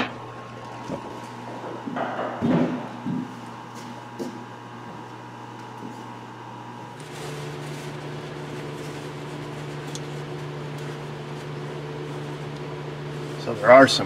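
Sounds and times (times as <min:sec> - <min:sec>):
mechanical fan hum: 0:00.0 - 0:14.0.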